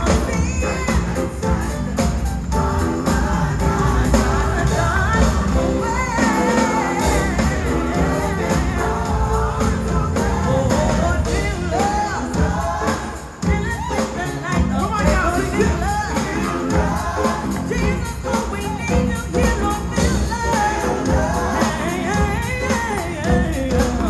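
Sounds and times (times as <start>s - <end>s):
full band playing: 0.0s - 24.0s
voices singing gospel: 0.0s - 24.0s.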